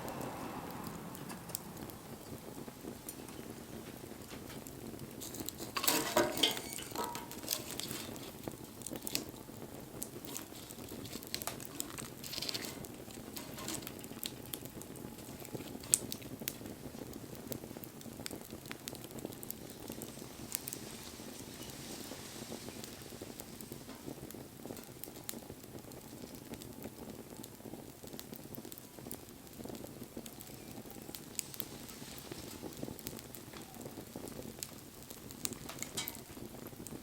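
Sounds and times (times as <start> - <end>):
bonfire hissing and crackling: 0.0 - 37.0.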